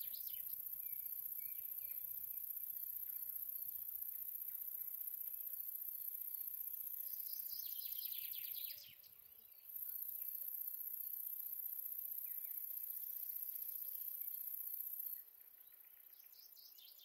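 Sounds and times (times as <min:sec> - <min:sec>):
bush-cricket high-pitched buzz: 0:00.0 - 0:17.0.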